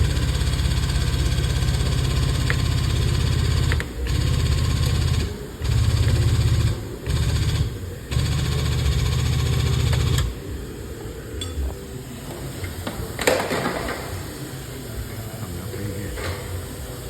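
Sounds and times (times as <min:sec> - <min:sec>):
machine pump running: 0:00.0 - 0:14.8.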